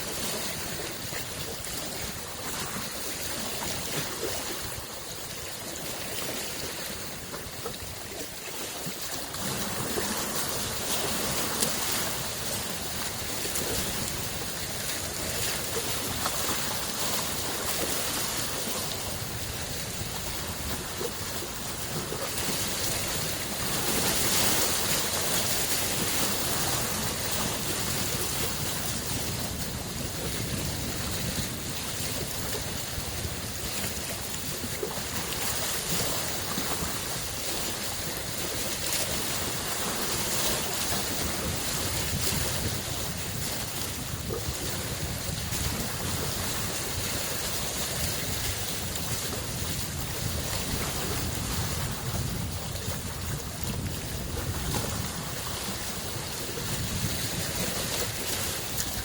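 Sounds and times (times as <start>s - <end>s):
small waves washing ashore: 0.0s - 59.0s.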